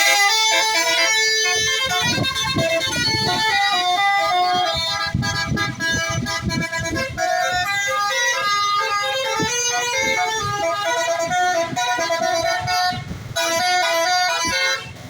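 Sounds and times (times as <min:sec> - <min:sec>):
bus engine rumble: 0:00.0 - 0:15.0
bus horn playing a tune: 0:00.0 - 0:15.0.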